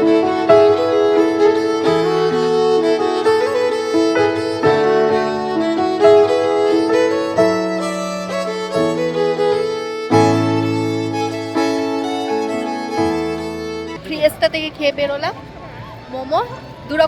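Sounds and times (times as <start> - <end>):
slow violin melody: 0.0 - 15.3.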